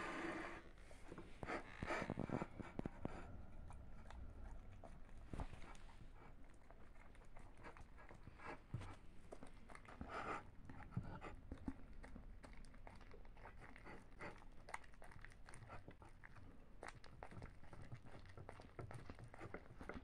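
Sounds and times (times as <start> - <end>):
dog licking and chewing: 1.8 - 20.0.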